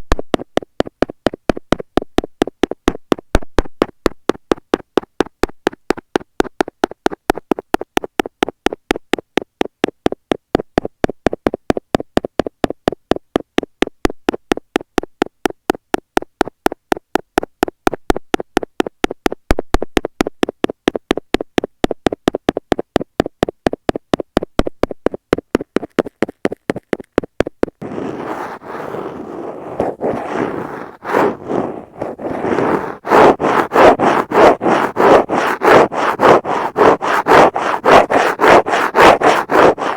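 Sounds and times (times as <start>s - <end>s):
ear pick tapping on microphone: 0.0s - 39.9s
scratching over microphone: 0.1s - 39.9s.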